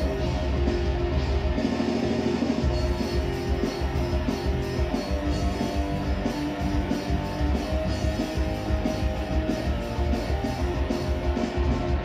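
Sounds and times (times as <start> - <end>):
instrumental rock music: 0.0 - 12.0.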